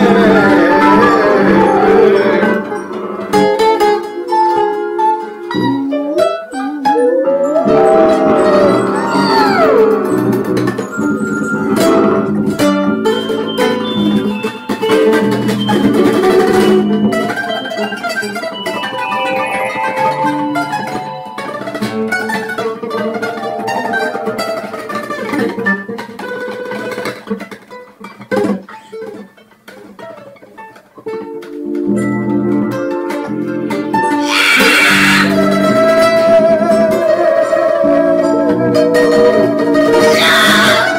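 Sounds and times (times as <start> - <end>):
acoustic guitar instrumental music: 0.0 - 40.9.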